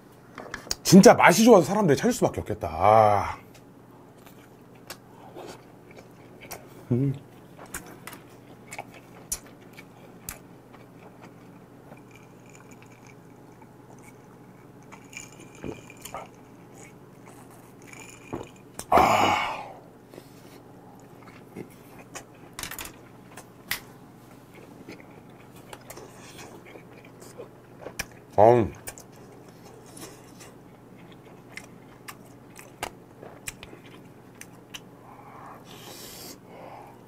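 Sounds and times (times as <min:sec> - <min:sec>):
person chewing: 0:04.2 - 0:23.7, 0:24.3 - 0:37.0.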